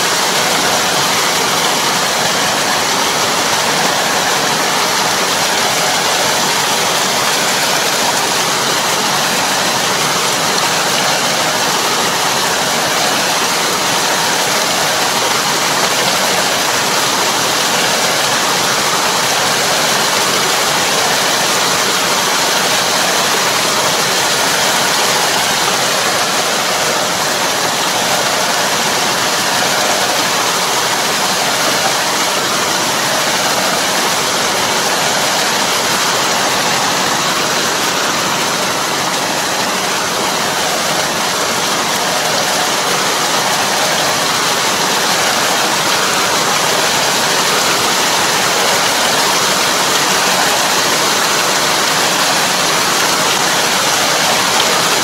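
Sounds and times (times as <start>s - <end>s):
muddy water rushing and sloshing: 0.0s - 55.0s.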